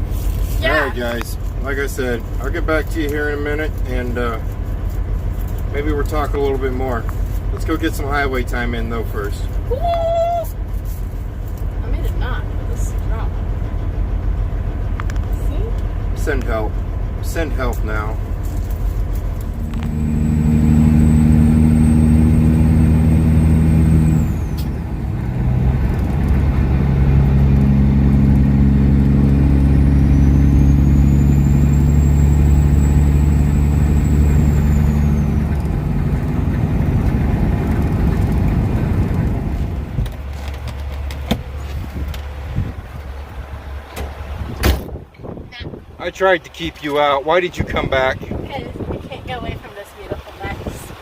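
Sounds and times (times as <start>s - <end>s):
truck diesel engine under load: 0.0s - 51.0s.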